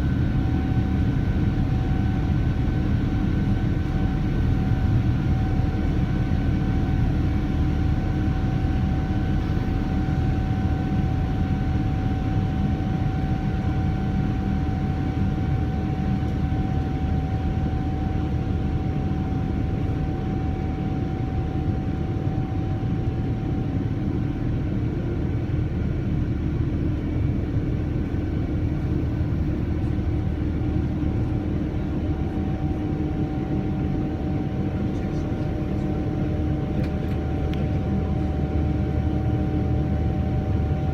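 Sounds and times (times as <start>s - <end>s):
airliner cabin engine rumble: 0.0s - 40.9s
jet engine whine: 0.0s - 40.9s.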